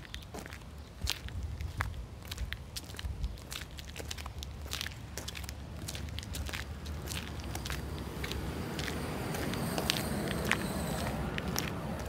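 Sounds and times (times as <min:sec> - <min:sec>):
footsteps on concrete: 0:00.0 - 0:12.0.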